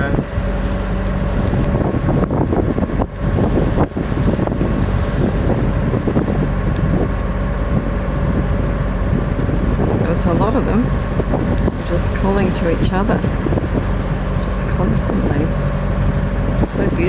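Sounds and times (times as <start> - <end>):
boat engine hum: 0.0 - 17.0
wind buffeting microphone: 0.0 - 17.0.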